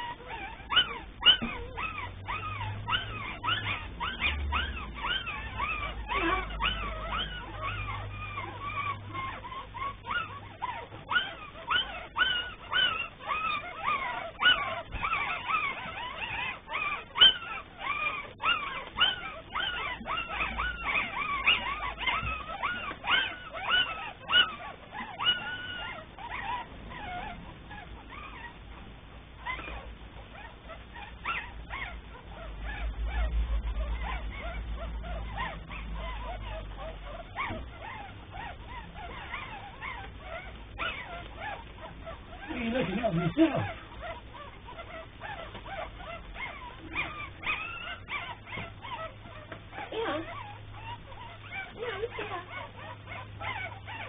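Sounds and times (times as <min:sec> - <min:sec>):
puppies whimpering and squeaking: 0:00.0 - 0:54.0.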